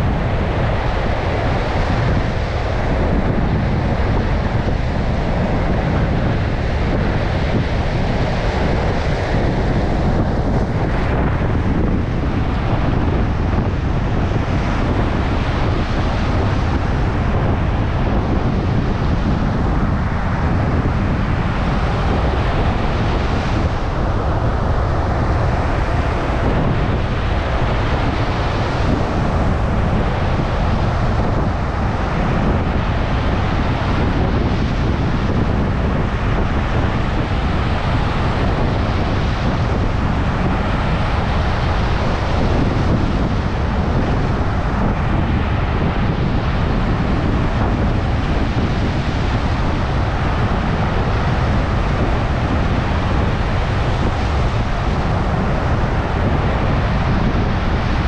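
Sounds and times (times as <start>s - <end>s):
stormy surf breaking: 0.0s - 58.0s
wind buffeting microphone: 0.0s - 58.0s.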